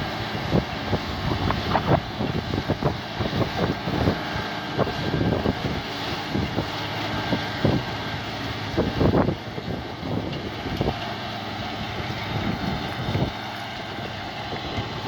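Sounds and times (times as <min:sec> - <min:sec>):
tractor engine under load: 0:00.0 - 0:15.0
wind buffeting microphone: 0:00.0 - 0:15.0.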